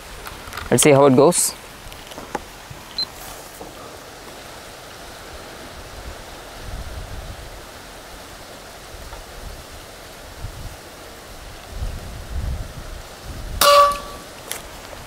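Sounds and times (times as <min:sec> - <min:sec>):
wind blowing over microphone: 0:00.0 - 0:15.0.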